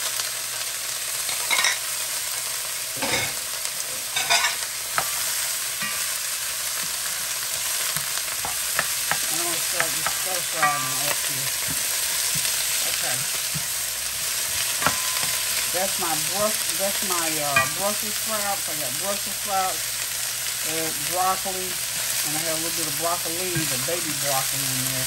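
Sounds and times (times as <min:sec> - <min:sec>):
vegetables sizzling in skillet: 0:00.0 - 0:25.0.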